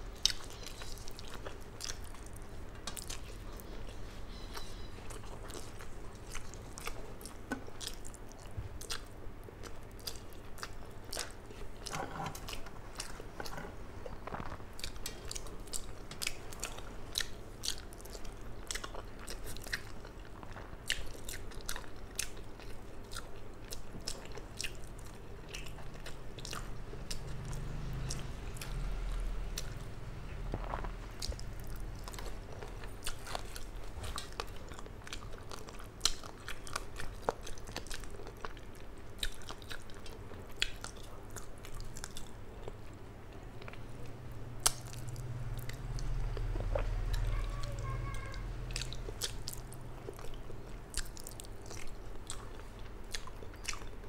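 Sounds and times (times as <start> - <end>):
close chewing: 0.0 - 54.0.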